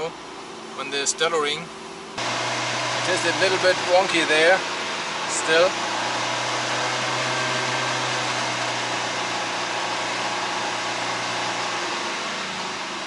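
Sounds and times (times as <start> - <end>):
van engine drone: 0.0 - 13.0.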